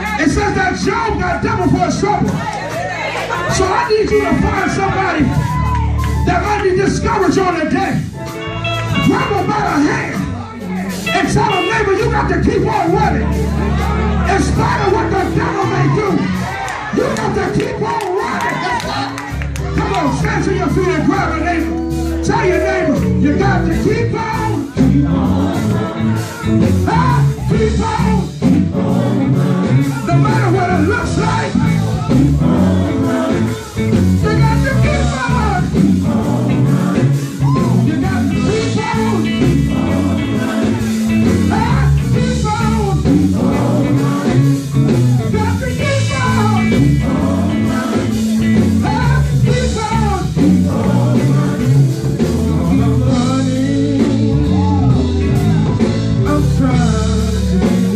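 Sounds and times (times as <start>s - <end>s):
male group singing gospel: 0.0s - 5.6s, 6.2s - 57.9s
band with guitar and bass: 0.0s - 57.9s.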